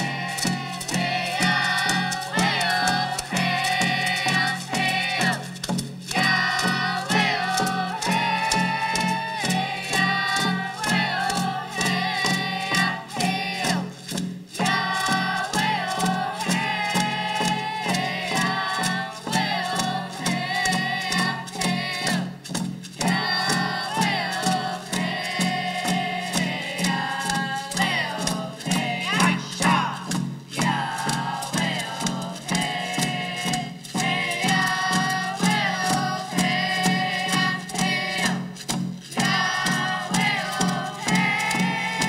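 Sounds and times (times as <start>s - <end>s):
children singing in unison: 0.0s - 5.5s, 6.1s - 13.9s, 14.6s - 22.3s, 23.0s - 38.5s, 39.1s - 42.0s
frame drums beating: 0.0s - 42.0s.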